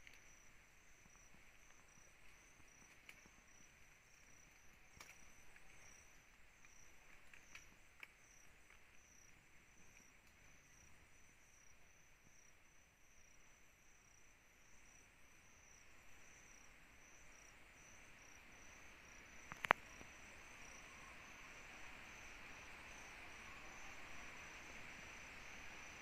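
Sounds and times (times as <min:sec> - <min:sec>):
crickets chirping: 0:00.0 - 0:26.0
insect hiss: 0:00.0 - 0:26.0.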